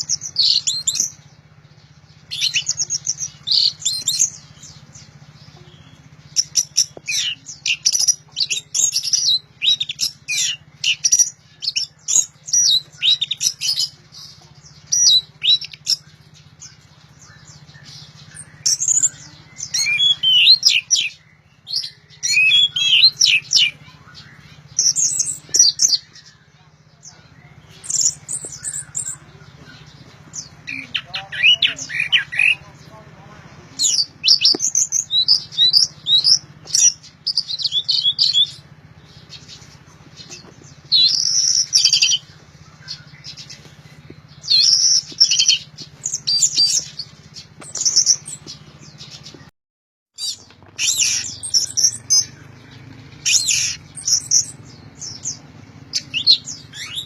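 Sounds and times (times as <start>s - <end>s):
steady low hum: 0.0s - 49.5s, 50.2s - 57.0s
thrush singing: 0.0s - 49.5s, 50.2s - 57.0s.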